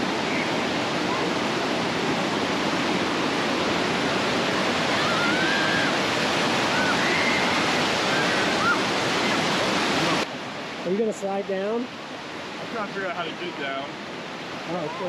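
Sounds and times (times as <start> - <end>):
waterfall rushing water: 0.0 - 15.0.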